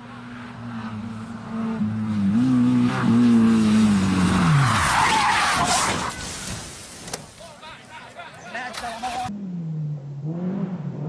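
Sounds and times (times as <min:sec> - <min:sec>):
tyres skidding: 0:00.0 - 0:10.1.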